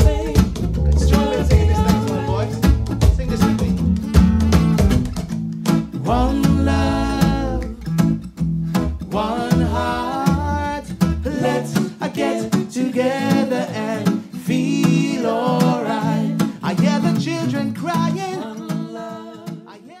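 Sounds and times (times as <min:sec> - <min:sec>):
male lead vocal: 0:00.0 - 0:03.8, 0:06.0 - 0:07.8, 0:09.0 - 0:20.0
backing vocal harmonies: 0:00.0 - 0:04.0, 0:05.9 - 0:08.2, 0:08.8 - 0:20.0
plucked upright bass: 0:00.0 - 0:17.3
strummed acoustic guitar: 0:00.0 - 0:20.0.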